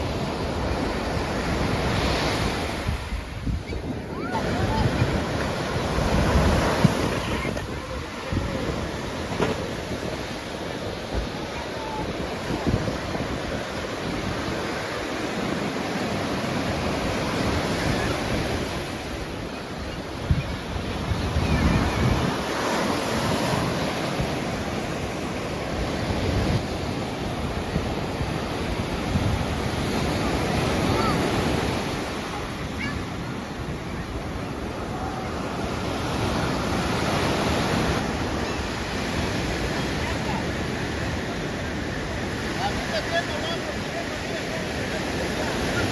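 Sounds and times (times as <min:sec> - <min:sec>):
wind gusting on microphone: 0:00.0 - 0:42.9
ocean waves breaking on beach: 0:00.0 - 0:45.9.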